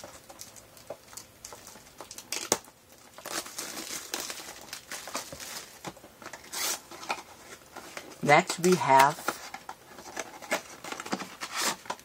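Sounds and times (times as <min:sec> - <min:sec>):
cardboard packaging crinkling: 0:00.0 - 0:12.0.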